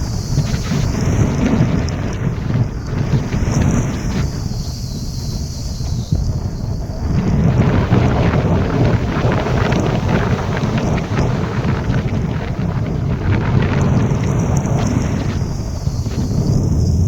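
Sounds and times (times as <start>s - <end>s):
crackling hiss: 0.0s - 17.0s
wind buffeting microphone: 0.0s - 17.0s.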